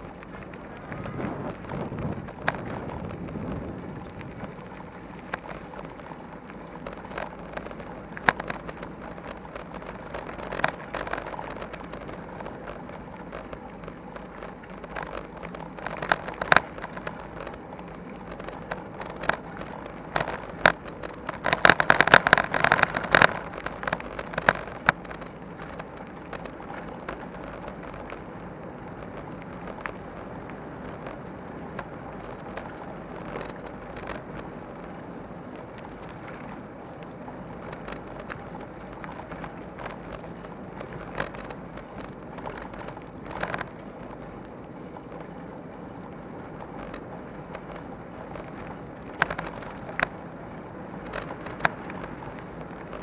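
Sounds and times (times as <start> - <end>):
bicycle rattling: 0.0 - 53.0
bicycle tyres on gravel: 0.0 - 53.0.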